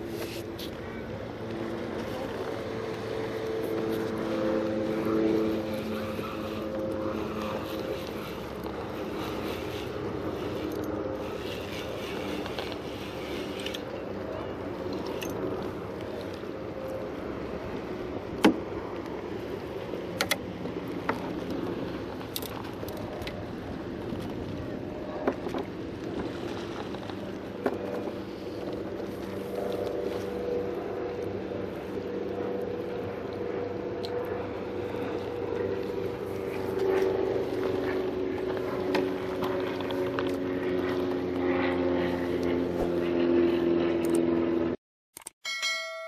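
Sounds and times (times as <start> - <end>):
boat engine humming: 0.0 - 44.7.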